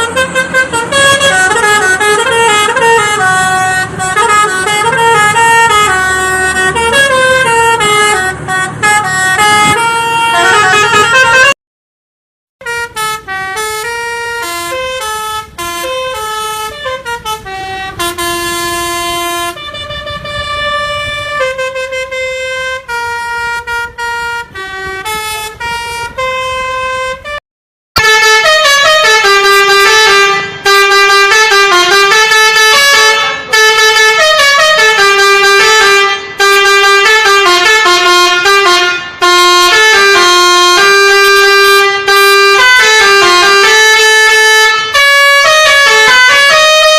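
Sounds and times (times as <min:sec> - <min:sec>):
multi-tone horn melody: 0:00.0 - 0:11.6, 0:12.6 - 0:27.4, 0:28.0 - 0:46.9.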